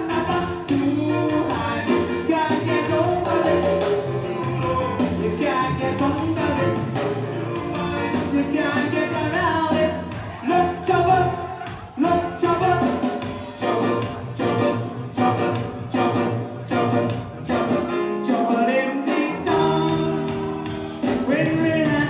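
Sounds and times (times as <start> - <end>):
keyboards: 0.0 - 22.0
person singing: 0.0 - 22.0
steady drum beat: 0.0 - 22.0.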